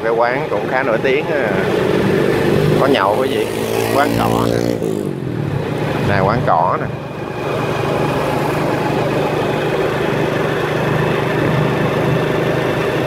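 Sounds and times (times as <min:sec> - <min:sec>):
vehicle engine hum and road noise: 0:00.0 - 0:13.0.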